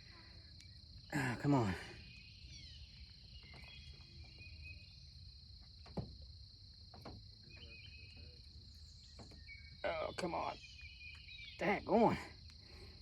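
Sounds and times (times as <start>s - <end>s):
faint bird chirps: 0.0s - 5.9s, 7.3s - 13.0s
insects trilling: 0.0s - 13.0s.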